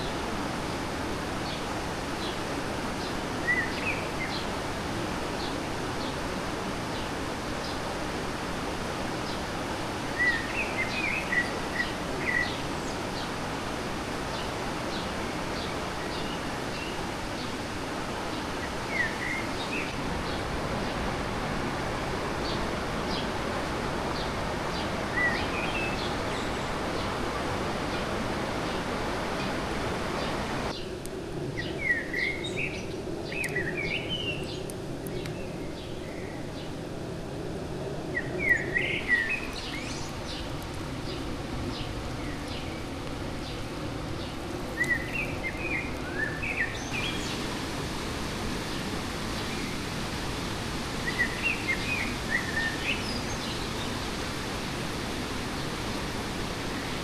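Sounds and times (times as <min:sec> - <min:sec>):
stream rushing: 0:00.0 - 0:30.8, 0:37.2 - 0:57.0.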